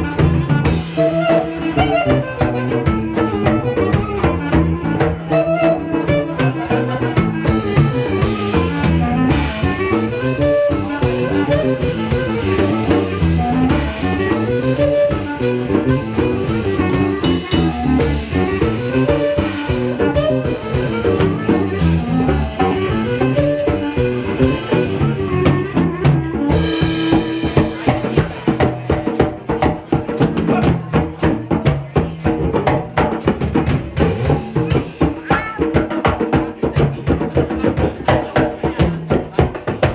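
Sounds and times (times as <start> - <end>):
drum kit beat: 0.0 - 39.9
small band playing: 0.0 - 39.9.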